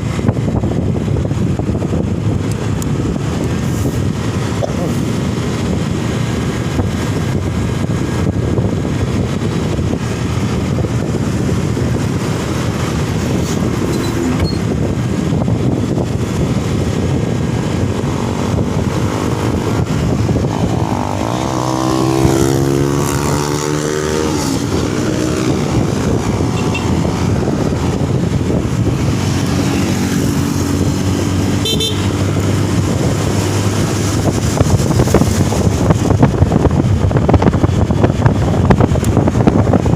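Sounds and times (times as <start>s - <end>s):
motorcycle passing: 0.0s - 39.8s
road traffic rumble: 0.0s - 39.9s
wind noise on microphone: 0.0s - 39.9s.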